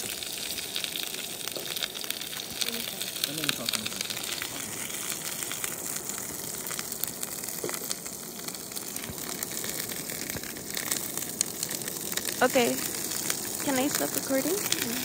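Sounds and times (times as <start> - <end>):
small pops and crackles: 0.0 - 15.0
steaks sizzling in a skillet: 0.0 - 15.0.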